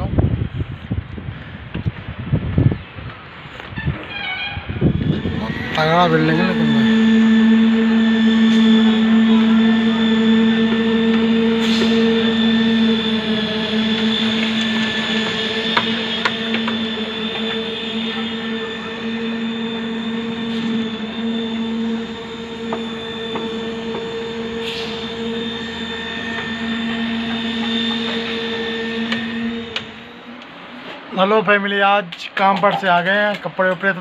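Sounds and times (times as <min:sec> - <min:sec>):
machine droning: 0:01.2 - 0:32.0.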